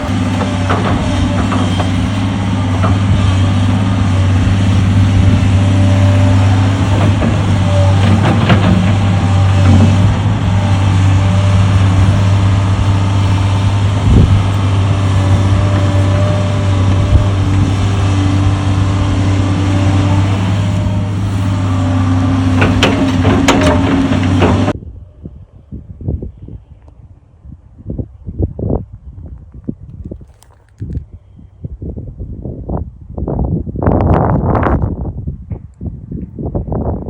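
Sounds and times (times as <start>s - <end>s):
diesel engine low drone: 0.0s - 37.0s.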